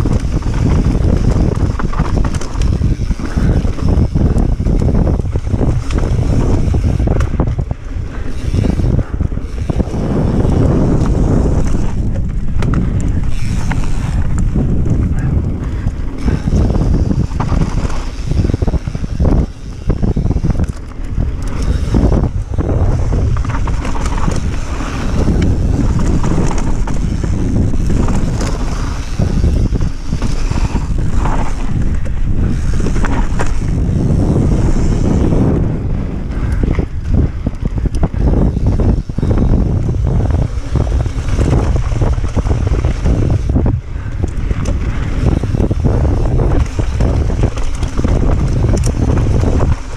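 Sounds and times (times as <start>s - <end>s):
bike tyres rumbling on dirt trail: 0.0s - 49.9s
wind buffeting microphone: 0.0s - 49.9s.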